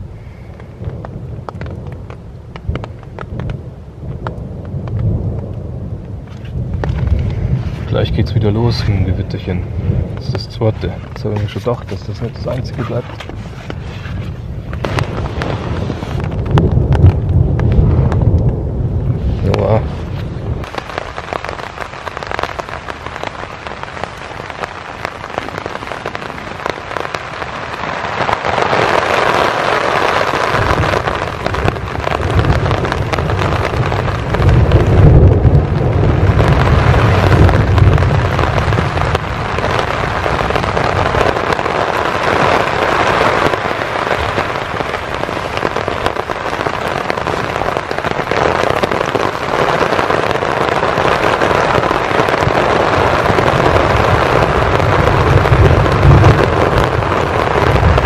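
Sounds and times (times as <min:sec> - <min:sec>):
heavy rain on a tarp: 0:00.0 - 0:58.0
low rumble of thunder: 0:00.0 - 0:58.0.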